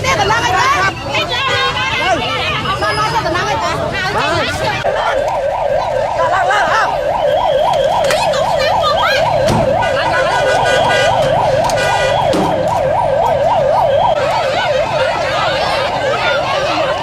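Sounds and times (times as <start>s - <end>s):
electronic siren yelping: 3.1s - 17.0s.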